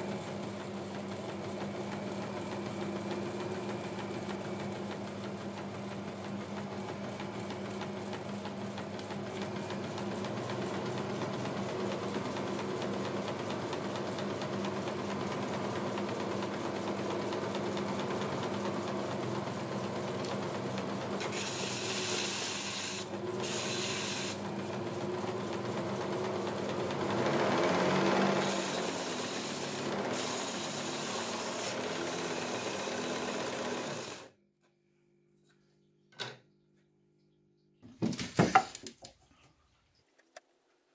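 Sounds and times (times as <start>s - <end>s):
belt sander motor hum: 0.0s - 34.3s.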